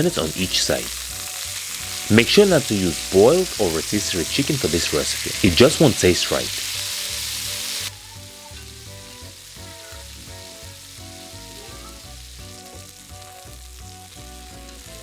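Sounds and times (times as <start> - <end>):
chicken sizzling in a pan: 0.0 - 15.0
soft background music: 0.0 - 15.0.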